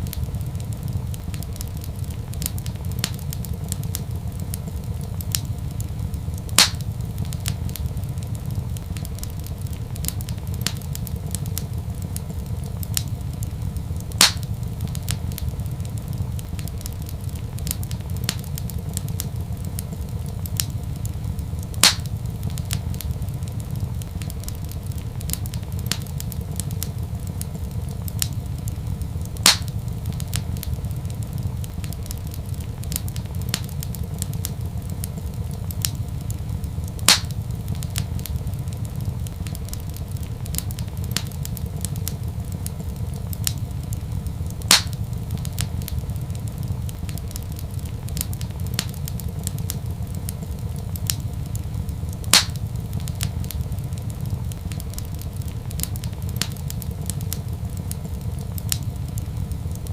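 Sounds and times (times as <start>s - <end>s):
fireplace fire crackling: 0.0s - 59.9s
loud fire pops: 0.0s - 59.9s
low fire rumble: 0.0s - 59.9s.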